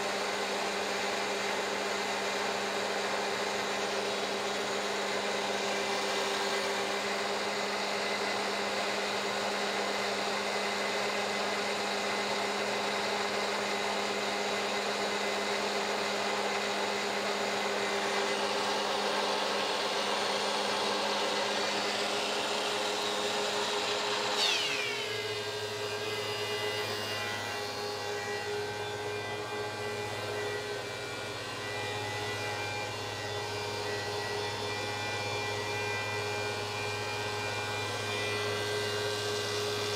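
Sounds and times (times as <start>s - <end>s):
thickness planer planing: 0.0s - 39.9s.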